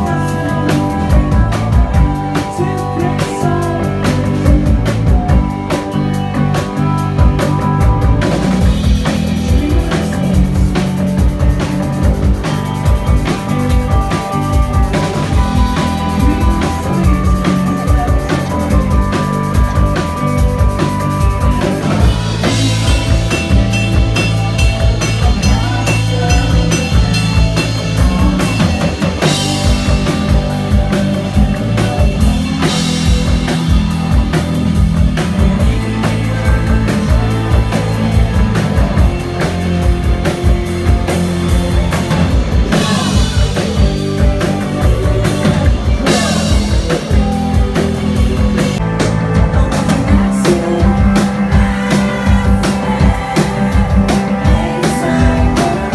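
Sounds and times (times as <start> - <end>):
drum kit: 0.0 - 55.9
electric guitar: 0.0 - 55.9
keyboard: 0.0 - 55.9.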